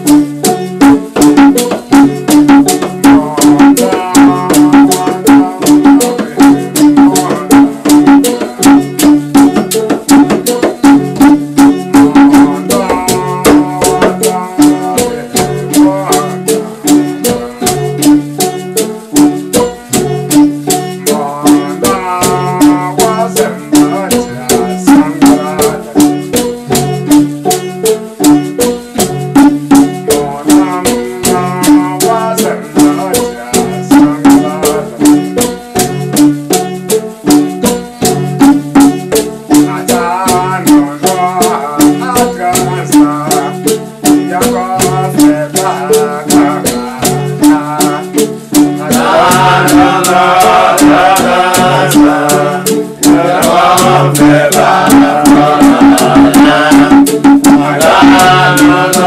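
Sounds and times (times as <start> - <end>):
rattle beating fast: 0.0 - 59.0
repeating melodic line: 0.0 - 59.0
people singing: 1.4 - 9.5, 11.2 - 18.2, 20.7 - 26.6, 29.4 - 36.3, 38.8 - 59.0.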